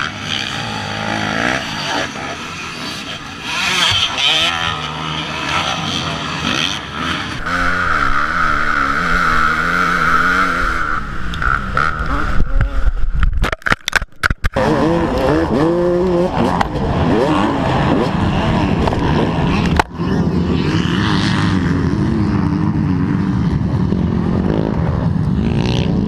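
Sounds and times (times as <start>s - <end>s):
dirt bike engine revving: 0.0s - 13.0s, 14.5s - 26.0s.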